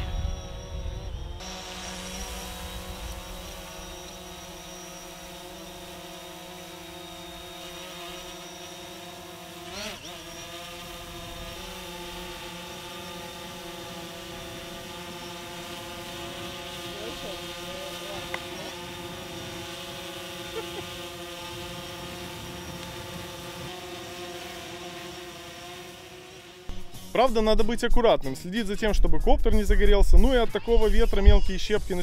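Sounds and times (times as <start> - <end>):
drone propellers whining: 0.0 - 27.2.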